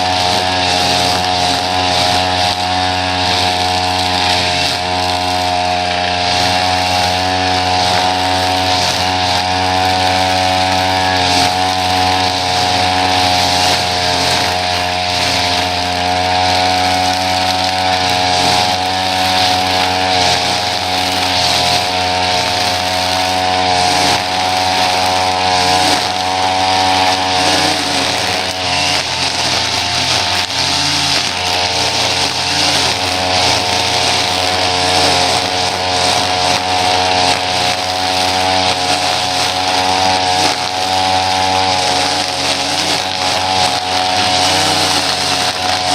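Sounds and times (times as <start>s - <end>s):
small petrol engine running: 0.0s - 45.9s.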